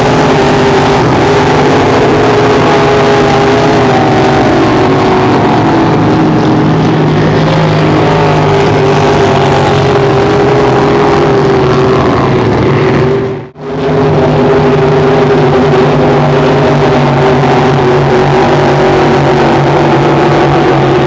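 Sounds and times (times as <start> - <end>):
speedboat engines running hard: 0.0 - 21.0.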